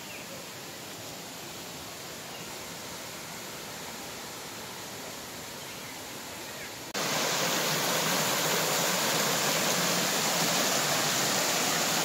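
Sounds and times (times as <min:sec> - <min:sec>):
waterfall rushing over rocks: 0:00.2 - 0:12.0.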